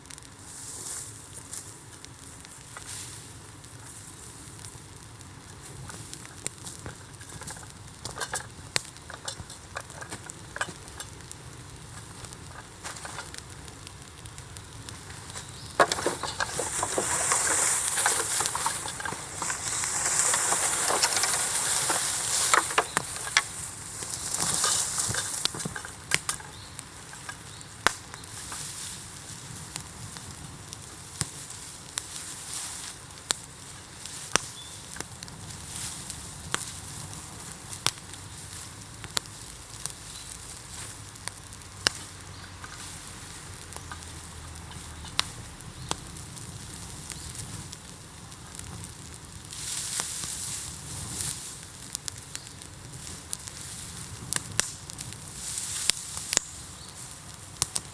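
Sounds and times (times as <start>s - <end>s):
bonfire hissing: 0.0s - 57.9s
burning bamboo popping and crackling: 0.0s - 57.9s.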